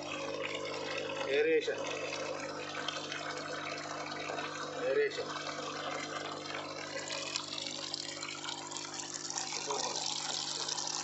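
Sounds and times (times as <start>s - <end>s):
pump motor hum: 0.0s - 11.0s
water splashing from pipe: 0.0s - 11.0s.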